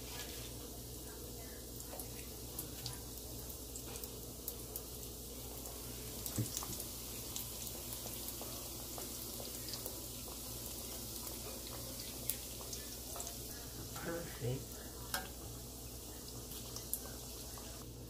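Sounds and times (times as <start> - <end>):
oil sizzling and popping: 0.0 - 18.0.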